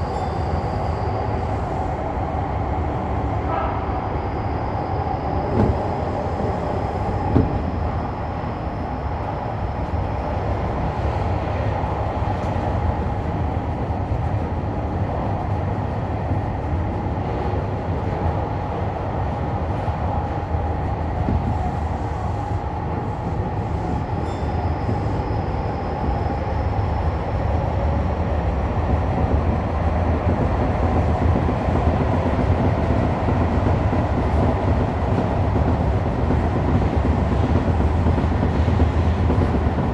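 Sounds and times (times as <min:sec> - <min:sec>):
train wheels and motors rumbling: 0:00.0 - 0:39.9.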